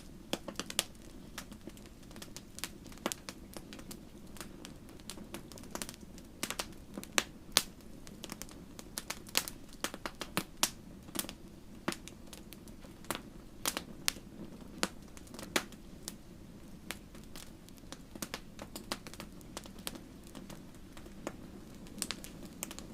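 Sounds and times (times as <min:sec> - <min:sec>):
bonfire crackling: 0:00.0 - 0:22.9.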